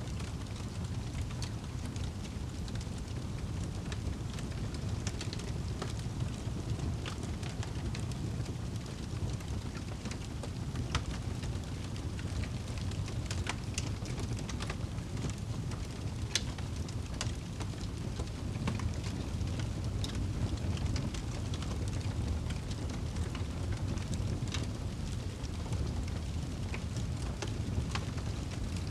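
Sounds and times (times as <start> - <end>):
wood fire crackling: 0.1 - 28.9.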